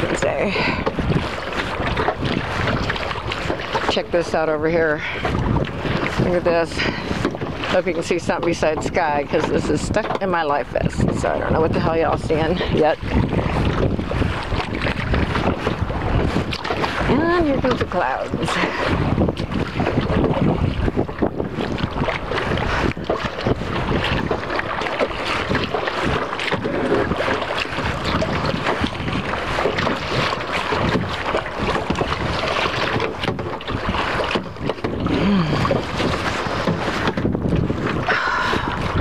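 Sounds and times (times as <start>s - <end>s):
water slapping against kayak: 0.0s - 39.0s
wind buffeting microphone: 0.0s - 39.0s.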